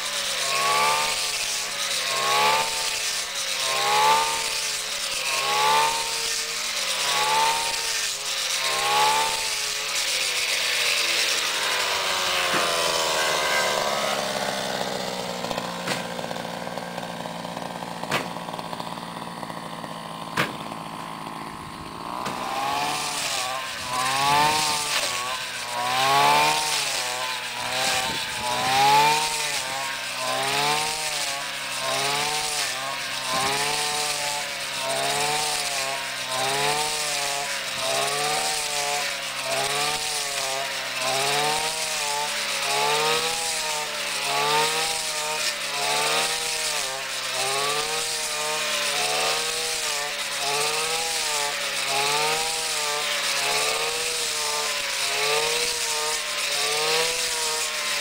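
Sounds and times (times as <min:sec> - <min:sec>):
brush cutter engine rising and falling: 0:00.0 - 0:58.0.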